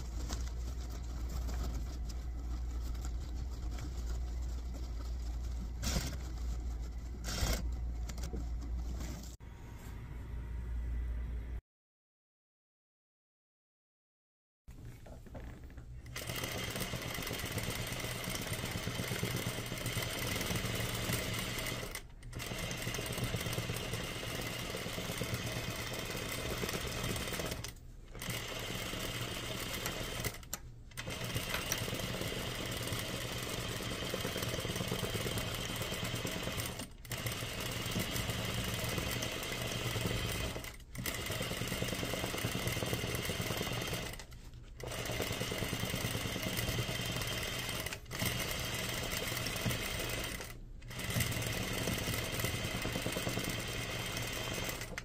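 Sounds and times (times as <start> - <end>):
sewing machine running: 0.0 - 9.4, 16.0 - 55.0.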